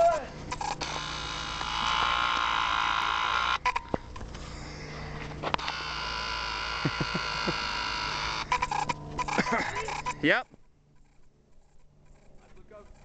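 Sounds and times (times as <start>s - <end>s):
buzzing drone with a whine: 0.0s - 13.0s.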